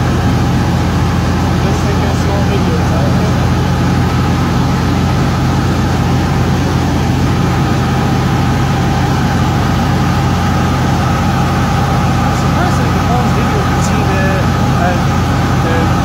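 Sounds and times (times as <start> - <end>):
propeller aircraft engine droning: 0.0 - 16.0.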